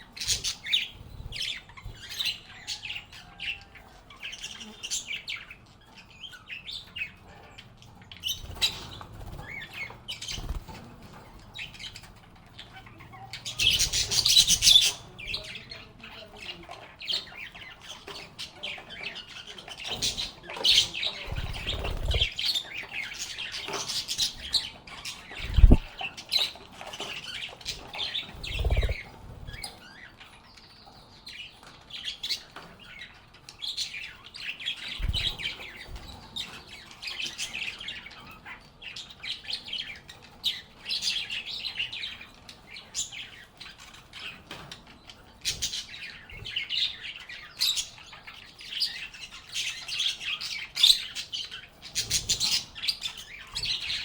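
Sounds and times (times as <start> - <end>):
lovebirds chirping and chattering: 0.0 - 54.0.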